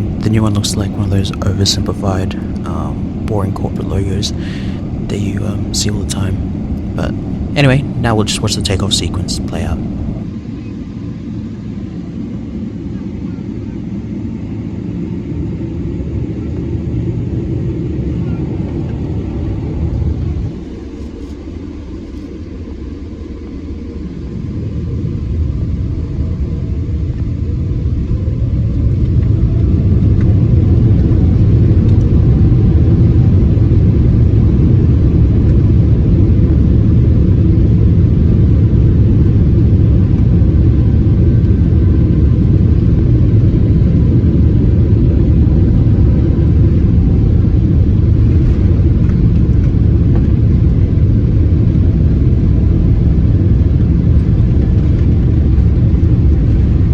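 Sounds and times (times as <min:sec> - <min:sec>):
jet engines rumbling: 0:00.0 - 0:56.9.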